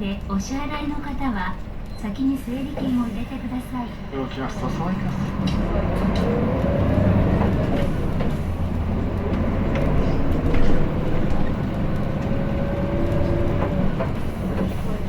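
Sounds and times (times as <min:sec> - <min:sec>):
bus engine hum with faint whine: 0:00.0 - 0:15.0.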